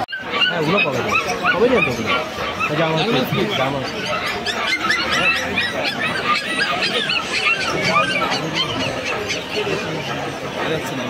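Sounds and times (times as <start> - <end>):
caged birds chirping and squawking: 0.0 - 11.0.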